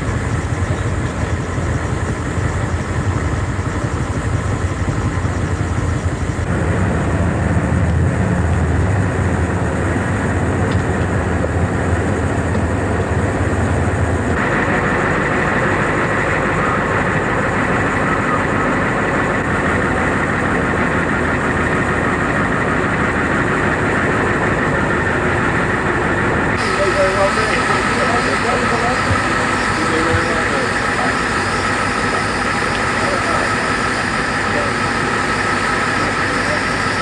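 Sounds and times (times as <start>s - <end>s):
vehicle engine rumble: 0.0s - 37.0s.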